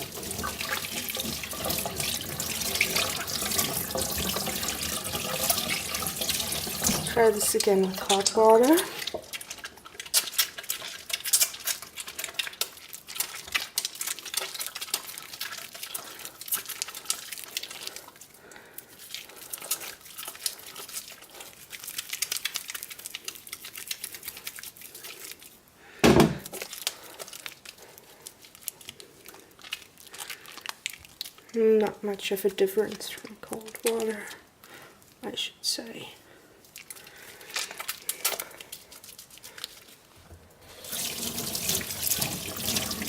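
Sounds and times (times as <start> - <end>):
wet hands lathering soap: 0.0 - 25.7, 26.4 - 34.5, 36.7 - 43.0.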